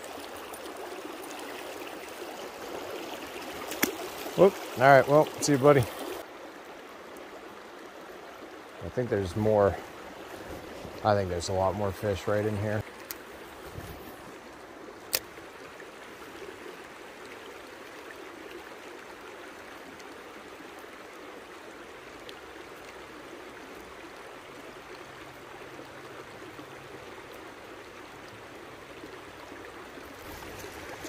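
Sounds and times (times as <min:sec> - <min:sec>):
stream running water: 0:00.0 - 0:31.0.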